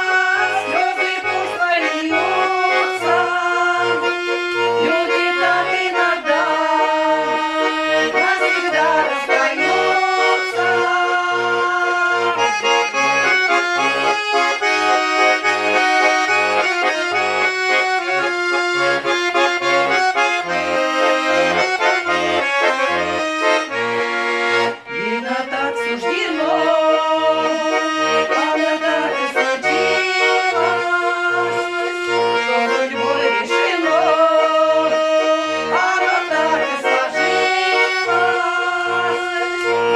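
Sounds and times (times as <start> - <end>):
accordion playing folk tune: 0.0 - 39.9.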